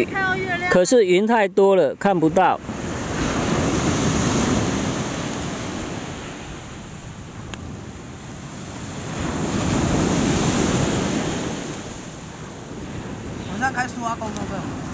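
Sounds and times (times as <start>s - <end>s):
sea waves washing on shore: 2.0s - 14.9s.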